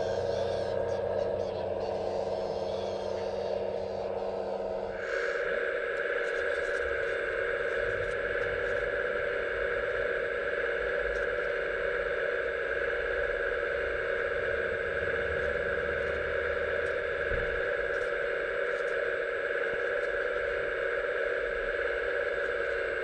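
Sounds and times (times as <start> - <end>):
hydraulic pump whine: 0.0 - 23.0.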